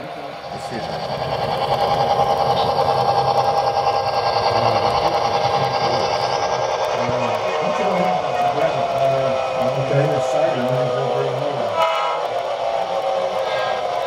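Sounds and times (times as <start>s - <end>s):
model train wheels clattering: 0.0s - 14.0s.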